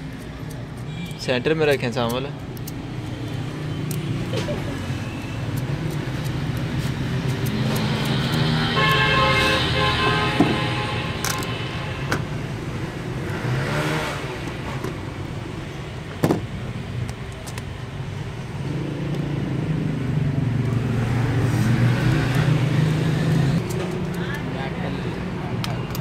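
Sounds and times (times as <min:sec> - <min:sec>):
traffic noise: 0:00.0 - 0:26.0.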